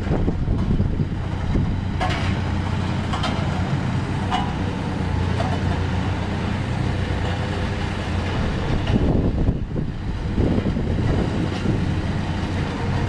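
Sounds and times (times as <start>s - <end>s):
road roller engine humming: 0.0s - 13.0s.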